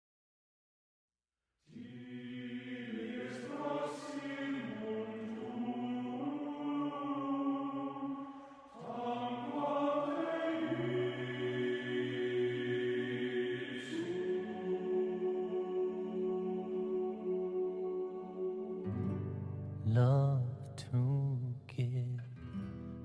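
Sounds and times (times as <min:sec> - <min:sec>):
wordless vocal harmony chant: 0:01.7 - 0:22.0.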